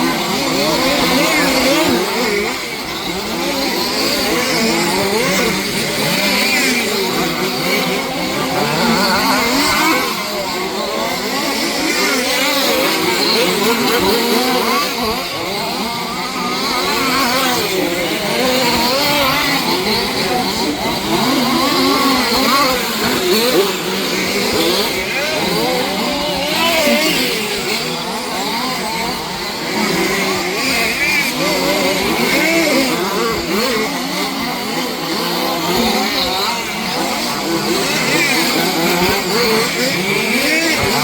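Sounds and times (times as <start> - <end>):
rc car engines revving: 0.0 - 41.0.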